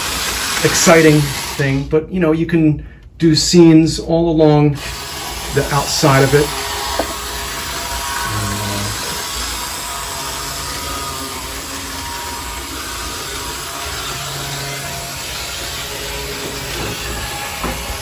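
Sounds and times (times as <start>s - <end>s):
model train mechanical whirring: 0.0s - 1.6s, 4.8s - 18.0s.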